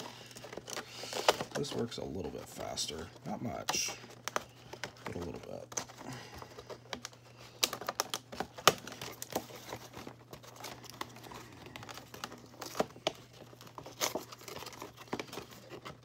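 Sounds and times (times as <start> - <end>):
plastic tape crinkling and peeling: 0.0 - 16.0.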